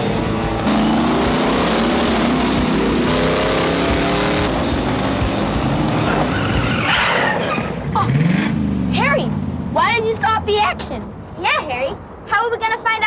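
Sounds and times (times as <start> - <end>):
truck engines revving hard: 0.0 - 11.2.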